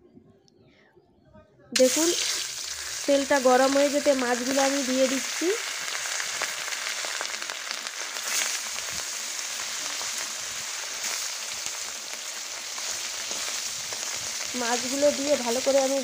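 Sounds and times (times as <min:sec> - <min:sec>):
fish sizzling in hot oil: 0:01.8 - 0:16.0.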